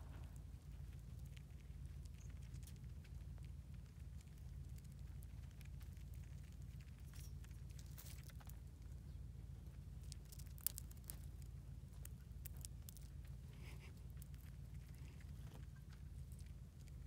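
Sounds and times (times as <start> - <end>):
chipmunk nibbling seeds: 0.0 - 17.0
low steady rumble: 0.0 - 17.0.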